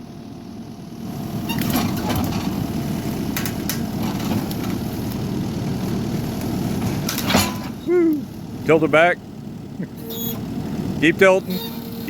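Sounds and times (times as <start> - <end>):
skid steer engine running: 0.0 - 12.0.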